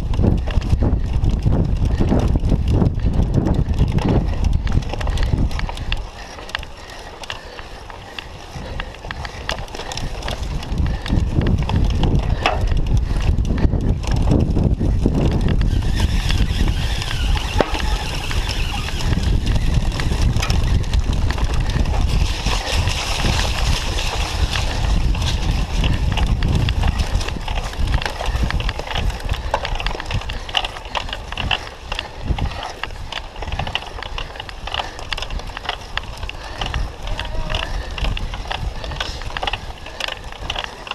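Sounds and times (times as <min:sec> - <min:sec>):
bike rattling: 0:00.0 - 0:40.9
tyres on dirt: 0:00.0 - 0:40.9
wind buffeting microphone: 0:00.0 - 0:40.9.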